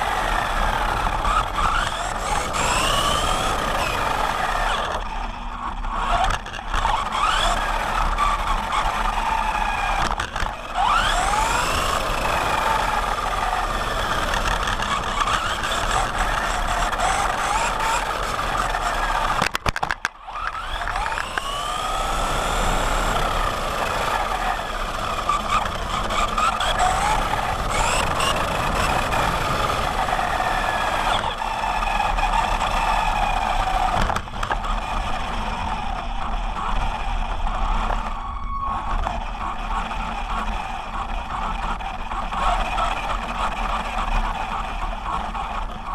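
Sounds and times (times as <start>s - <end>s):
toy truck electric motor whining: 0.0s - 45.9s.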